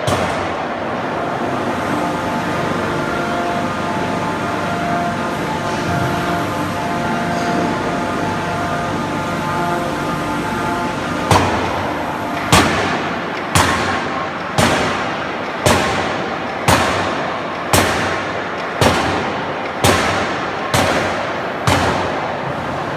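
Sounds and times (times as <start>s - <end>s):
forging hammer metallic bangs: 0.0s - 22.8s
steady machinery noise: 0.0s - 22.9s.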